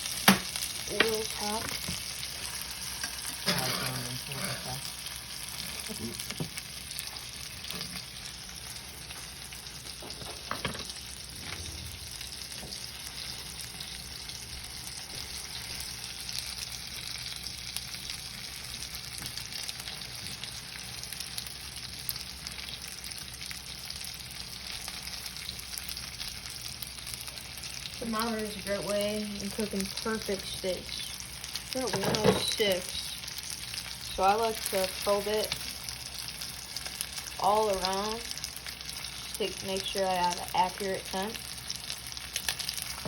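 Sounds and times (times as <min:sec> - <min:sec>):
steak sizzling in a pan: 0:00.0 - 0:43.0.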